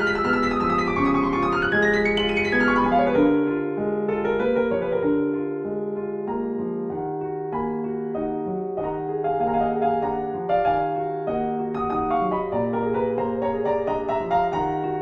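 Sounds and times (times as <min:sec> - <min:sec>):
piano-like keyboard notes: 0:00.0 - 0:15.0.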